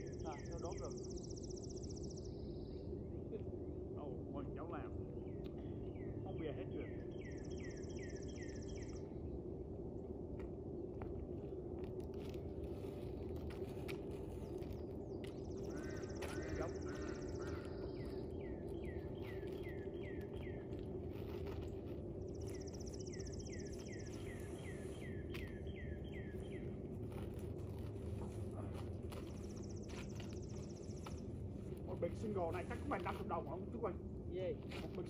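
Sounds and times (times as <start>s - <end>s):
low outdoor hum: 0.0s - 35.0s.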